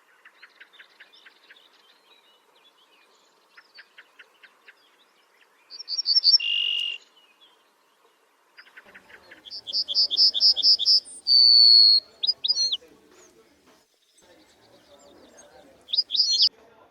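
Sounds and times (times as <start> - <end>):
songbird singing: 0.0 - 16.5.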